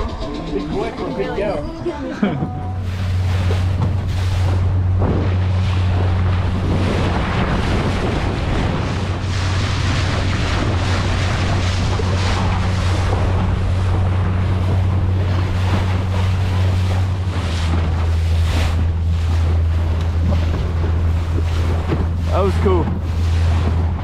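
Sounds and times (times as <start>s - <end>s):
boat motor drone: 0.0s - 24.0s
water rushing along hull: 0.0s - 24.0s
wind buffeting microphone: 0.0s - 24.0s.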